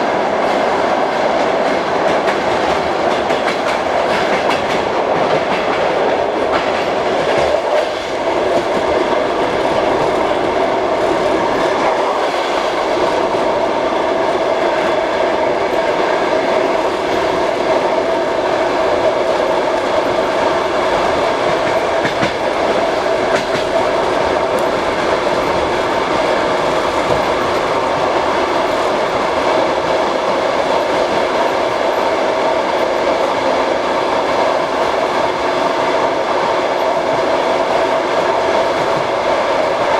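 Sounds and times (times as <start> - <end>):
train rolling noise: 0.0 - 39.9
train wheels clattering on rails: 0.0 - 39.9.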